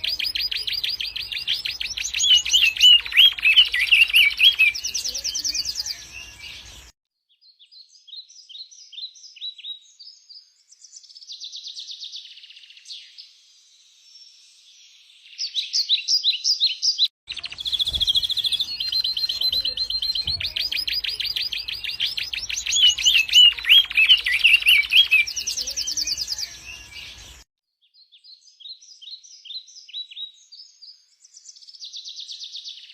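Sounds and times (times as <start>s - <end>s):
songbirds chirping and trilling: 0.0s - 32.9s.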